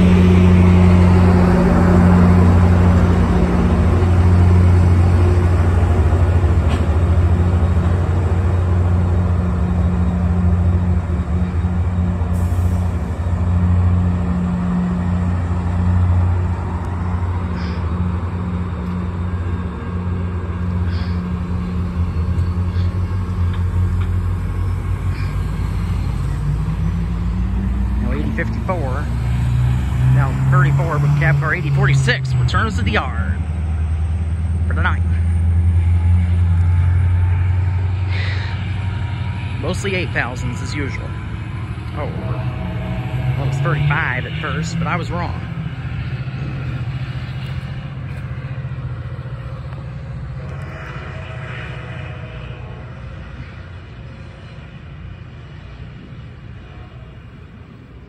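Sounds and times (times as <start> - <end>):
locomotive engine droning: 0.0 - 58.0.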